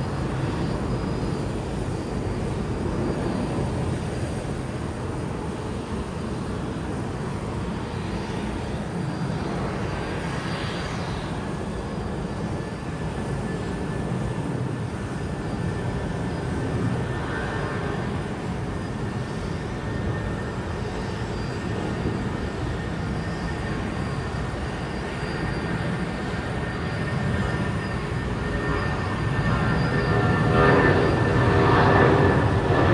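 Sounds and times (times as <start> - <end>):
faint thin whine: 0.0 - 32.9
jet engine rumble: 0.0 - 32.9.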